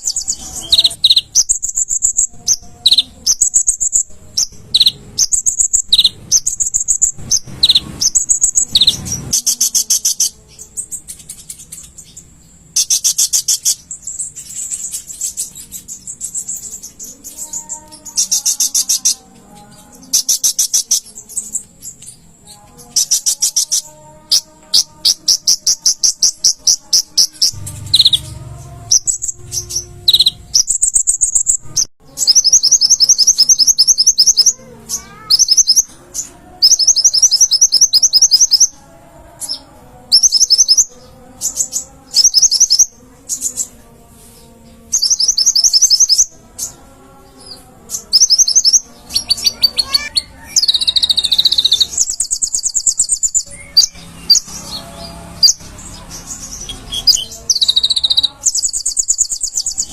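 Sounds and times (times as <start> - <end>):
sunbird singing trilled phrases: 0.0 - 38.8, 45.0 - 46.8, 48.0 - 59.9.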